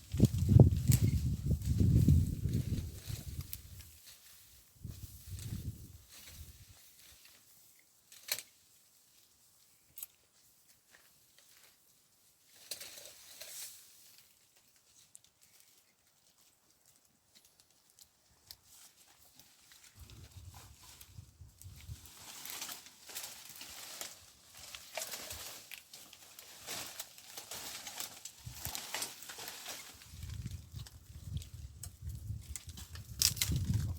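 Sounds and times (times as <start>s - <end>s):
faint rustling and crackling: 0.0s - 33.9s.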